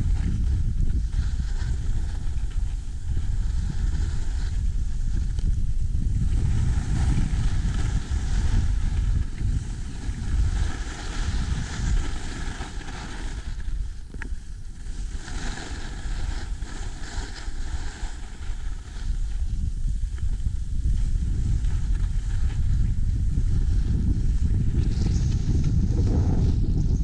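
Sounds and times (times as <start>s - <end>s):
skis sliding on snow: 0.0s - 26.8s
wind buffeting microphone: 0.0s - 27.0s.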